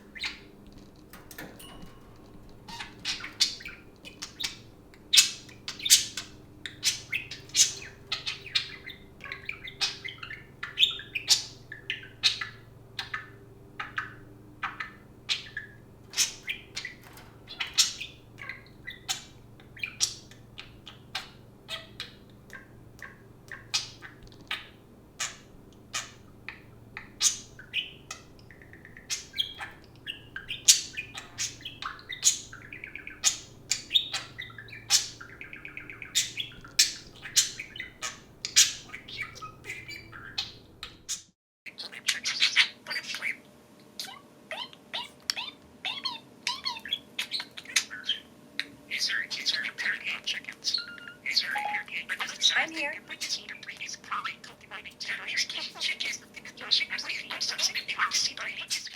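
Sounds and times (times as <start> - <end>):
budgerigar chirping: 0.0 - 0.6, 2.6 - 43.4, 48.9 - 58.9.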